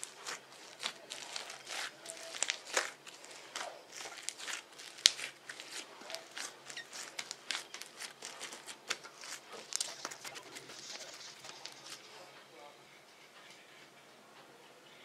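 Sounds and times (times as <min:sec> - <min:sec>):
slime crunching and popping: 0:00.0 - 0:12.0.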